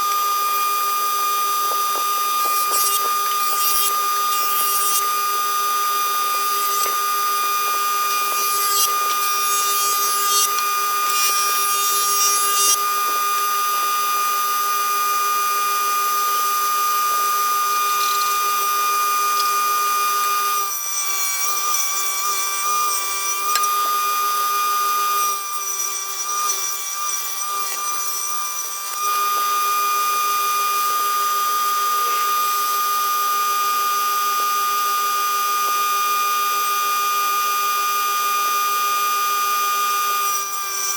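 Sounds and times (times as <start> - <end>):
power tool motor whining: 0.0 - 40.9
saw cutting wood: 0.0 - 40.9.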